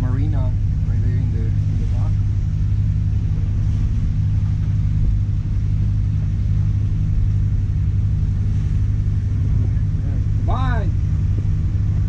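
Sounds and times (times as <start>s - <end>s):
boat diesel engine rumbling: 0.0s - 12.0s.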